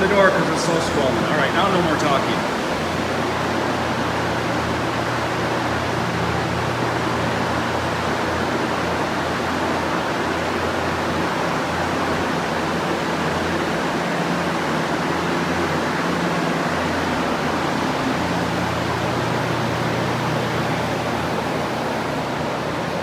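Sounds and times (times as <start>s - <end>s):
fans and dehumidifier rushing: 0.0s - 23.0s.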